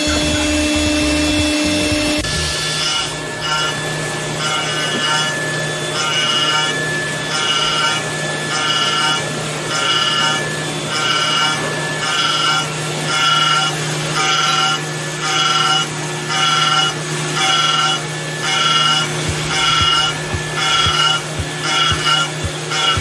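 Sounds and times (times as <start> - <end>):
cutter whine through metal: 0.0 - 23.0
milling machine spindle hum: 0.0 - 23.0.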